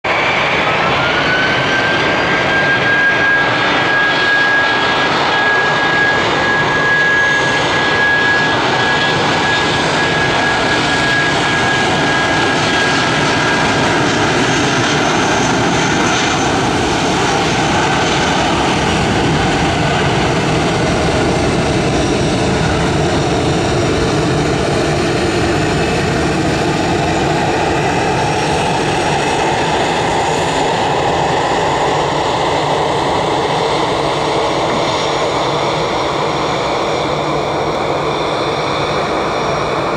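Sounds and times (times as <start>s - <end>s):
jet engines at take-off power: 0.0s - 39.9s.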